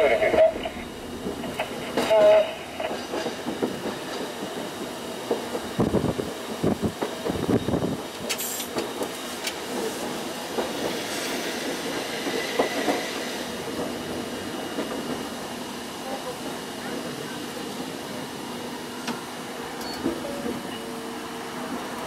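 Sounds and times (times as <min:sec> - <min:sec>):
tram rumble: 0:00.0 - 0:22.0.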